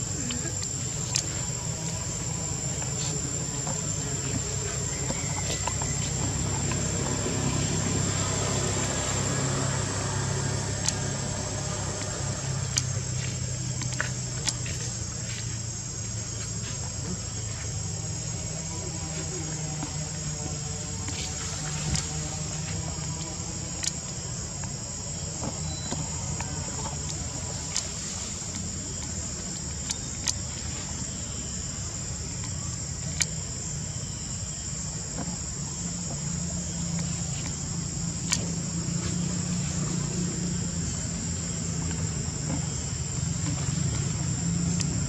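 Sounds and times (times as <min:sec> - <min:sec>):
high-pitched insect drone: 0:00.0 - 0:45.0
low steady rumble: 0:00.0 - 0:45.0.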